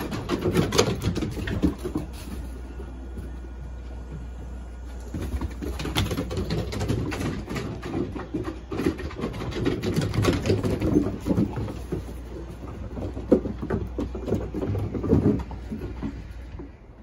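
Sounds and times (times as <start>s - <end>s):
claws scrabbling on wooden boards: 0.0s - 3.2s, 4.9s - 16.8s.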